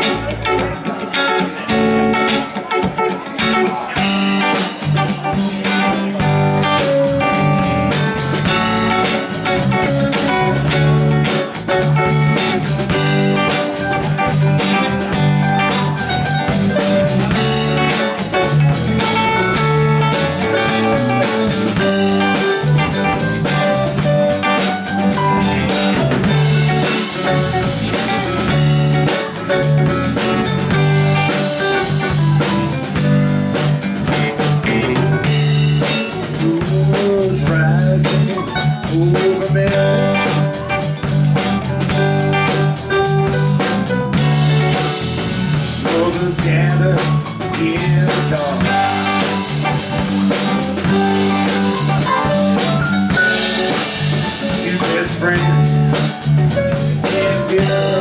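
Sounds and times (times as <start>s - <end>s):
drums and cymbals: 0.0s - 58.0s
electric guitars: 0.0s - 58.0s
keyboard: 0.0s - 58.0s.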